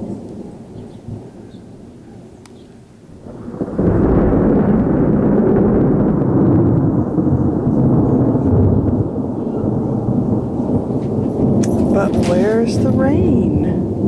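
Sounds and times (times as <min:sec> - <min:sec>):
deep rolling thunder: 0:00.0 - 0:02.4, 0:03.1 - 0:14.0.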